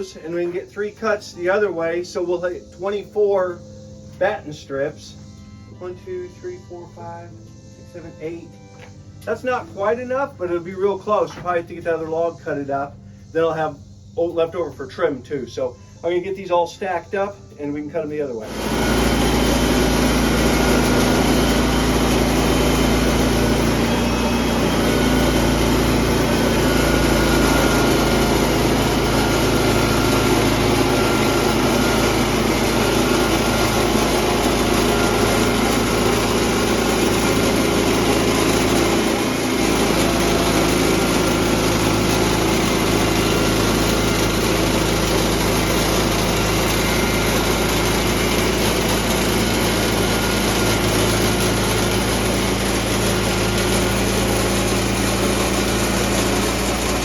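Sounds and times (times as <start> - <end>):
sawmill engine running under load: 0.0 - 57.0.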